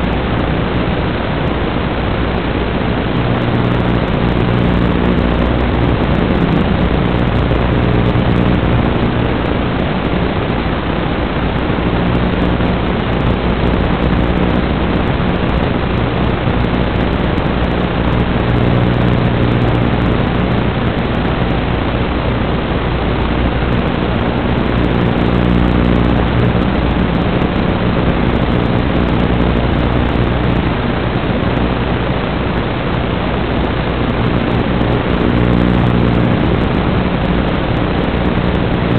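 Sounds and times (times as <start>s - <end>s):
faint low buzzing hum: 0.0s - 38.9s
loud static hiss: 0.0s - 38.9s.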